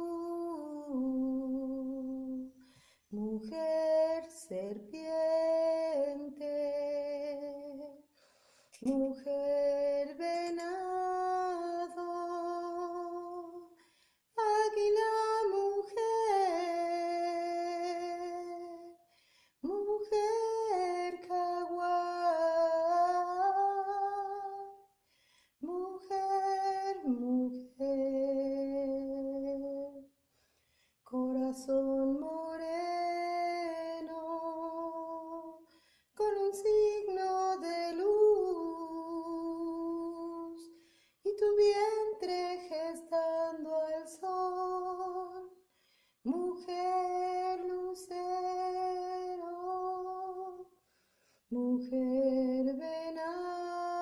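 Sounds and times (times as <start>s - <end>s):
woman singing slow song: 0.0s - 24.9s, 25.6s - 30.2s, 31.0s - 45.6s, 46.2s - 50.8s, 51.5s - 54.0s.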